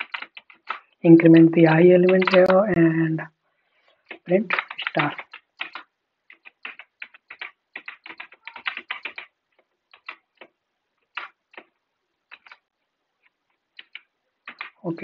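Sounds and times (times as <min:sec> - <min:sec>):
typing on computer keyboard: 0:00.0 - 0:02.8, 0:04.0 - 0:15.0.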